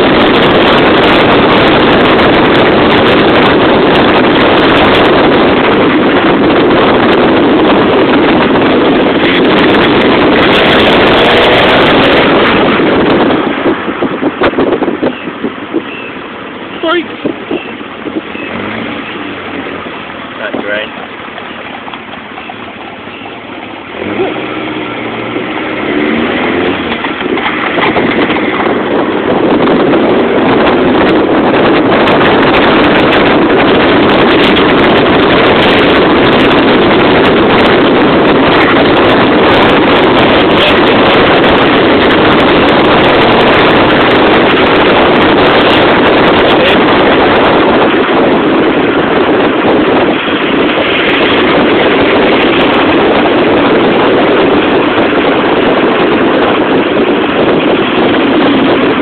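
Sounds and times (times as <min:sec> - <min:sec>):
car engine revving: 0:00.0 - 0:15.1, 0:15.7 - 0:59.0
wind noise: 0:00.0 - 0:59.0.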